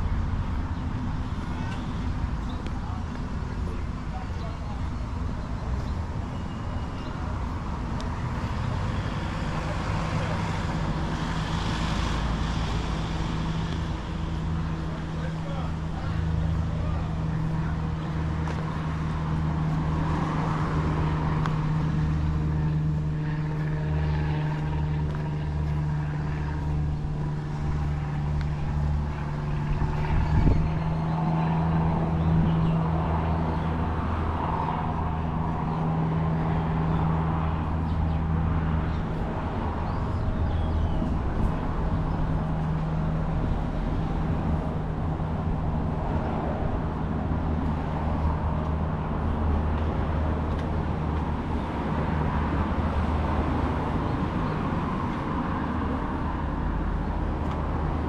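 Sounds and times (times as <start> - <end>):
passing traffic: 0.0 - 58.0
vehicle engine running: 0.0 - 58.0.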